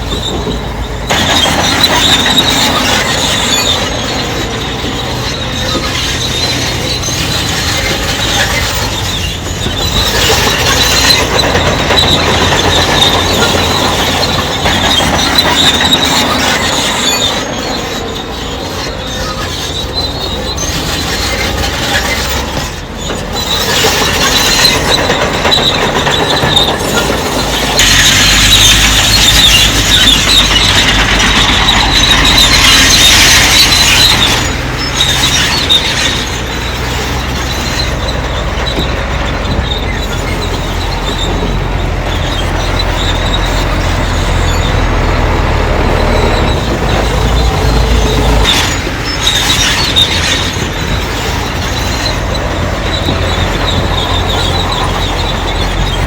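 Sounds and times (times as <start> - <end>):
bulldozer diesel engine: 0.0 - 56.0
steel tracks squealing: 0.0 - 56.0.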